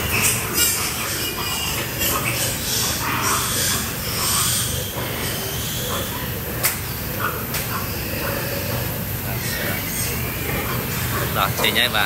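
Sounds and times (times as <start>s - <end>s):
piglets squealing: 0.0s - 12.0s.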